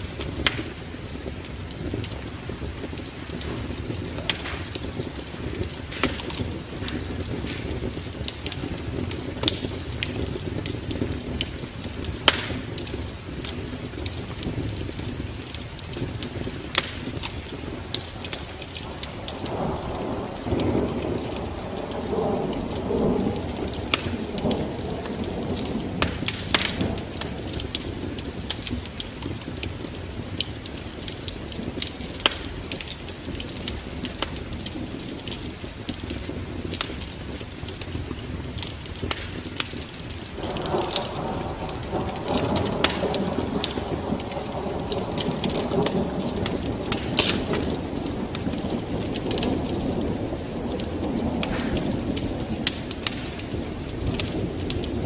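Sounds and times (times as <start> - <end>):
log fire crackling and popping: 0.0 - 55.0
rain hissing: 0.0 - 55.0.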